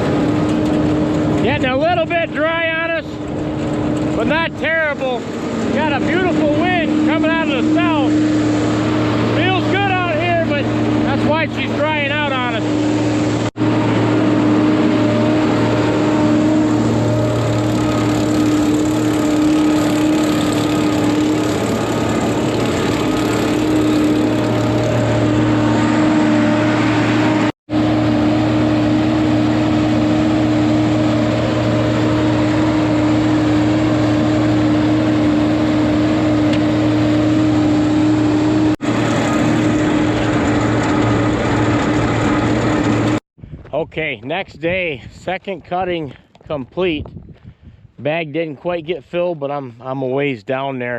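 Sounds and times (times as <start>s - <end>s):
tractor engine humming: 0.0s - 43.2s.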